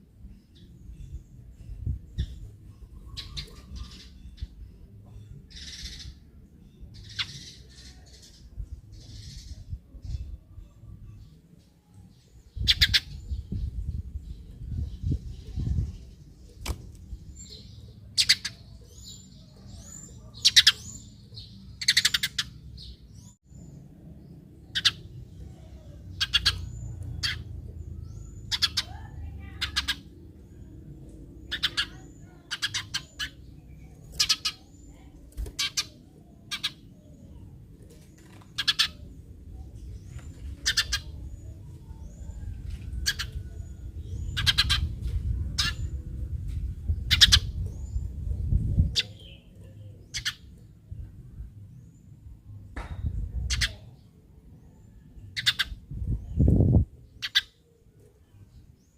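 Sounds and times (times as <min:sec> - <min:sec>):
sparrow chirping: 0:00.0 - 0:52.2, 0:52.8 - 0:58.9.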